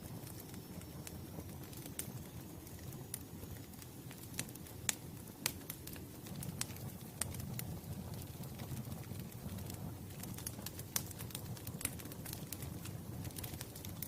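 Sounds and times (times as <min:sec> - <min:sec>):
low rumble of burning: 0:00.0 - 0:14.0
wood fire crackling: 0:00.0 - 0:14.0.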